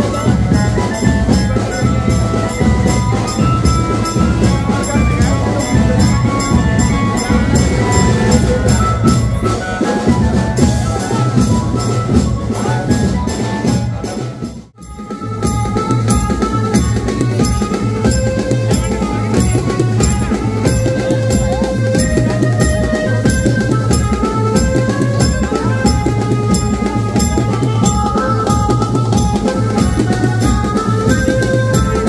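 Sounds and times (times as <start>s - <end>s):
banjo band music with drums: 0.0s - 32.0s.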